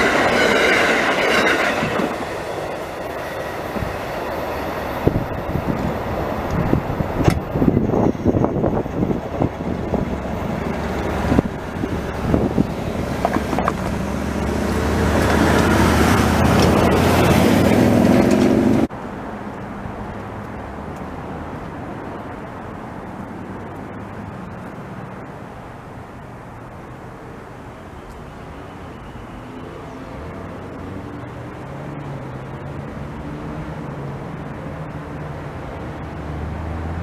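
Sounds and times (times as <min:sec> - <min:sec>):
train passing: 0:00.0 - 0:37.0.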